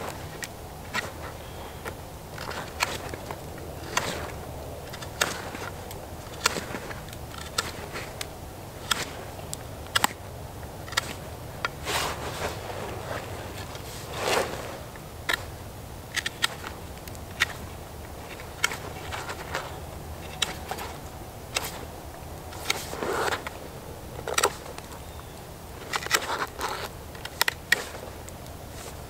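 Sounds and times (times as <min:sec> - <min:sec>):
knife shaving wood: 0:00.0 - 0:29.0.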